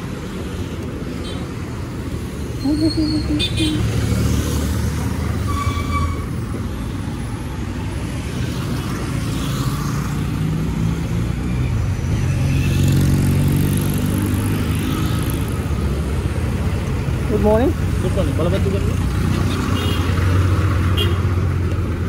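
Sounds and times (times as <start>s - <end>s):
traffic: 0.0s - 22.0s.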